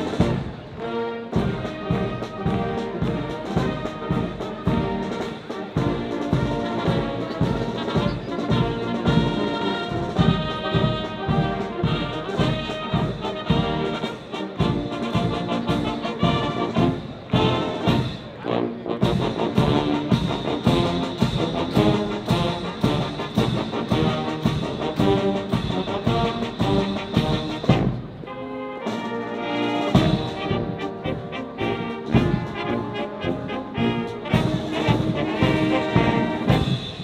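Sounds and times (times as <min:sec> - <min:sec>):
steady drum beat: 0:00.0 - 0:18.4, 0:19.0 - 0:28.3, 0:29.8 - 0:37.0
brass chords: 0:00.0 - 0:37.0.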